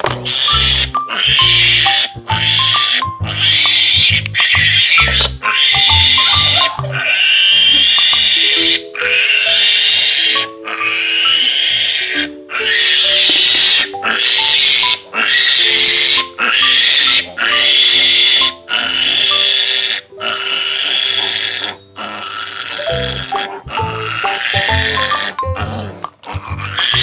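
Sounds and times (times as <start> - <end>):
background music: 0.0 - 27.0
piglet squealing: 0.0 - 27.0.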